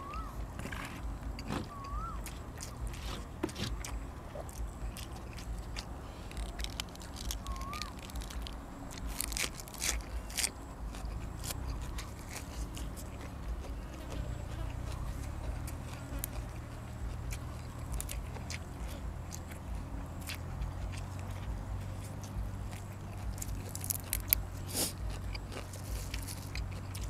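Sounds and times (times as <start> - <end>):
person chewing and crunching food: 0.0 - 27.0.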